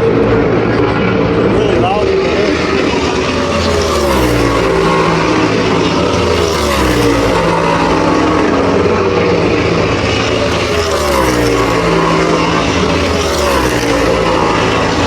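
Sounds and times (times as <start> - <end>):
racing car engines at speed: 0.0 - 15.0.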